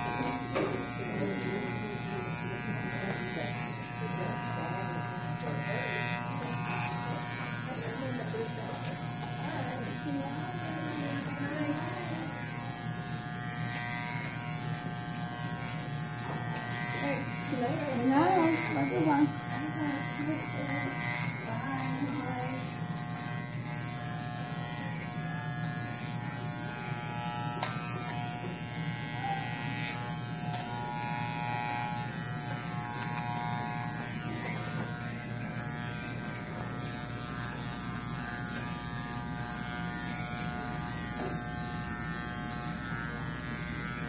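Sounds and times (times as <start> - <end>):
electric hair clippers buzzing: 0.0 - 44.0.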